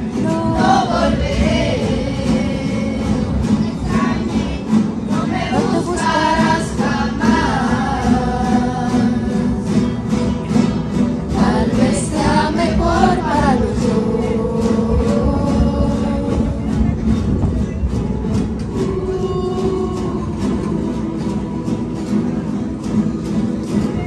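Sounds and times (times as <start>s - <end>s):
group singing: 0.0s - 16.9s, 18.6s - 23.9s
strummed acoustic guitars: 0.0s - 24.0s.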